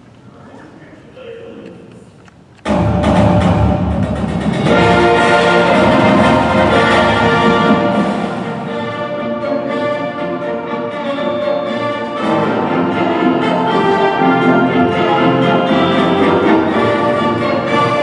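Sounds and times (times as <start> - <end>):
brass ensemble sustained chords: 2.8 - 18.0.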